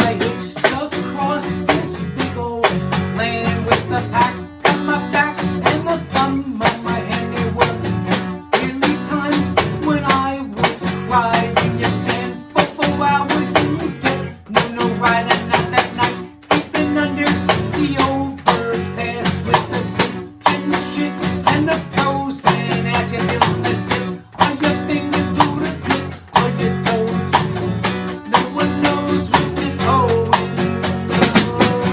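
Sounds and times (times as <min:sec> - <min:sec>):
plucked and strummed guitar: 0:00.0 - 0:31.9.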